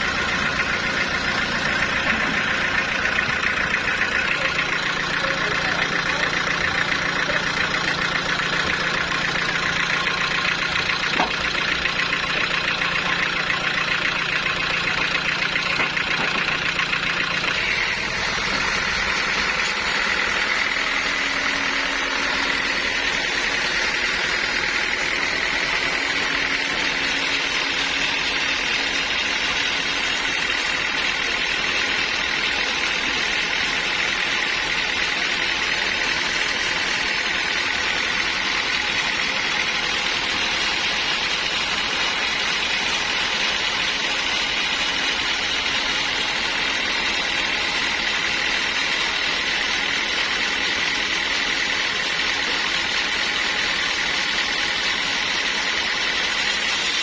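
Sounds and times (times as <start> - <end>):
high machine whine: 0.0 - 57.0
sawmill machinery running: 0.0 - 57.0.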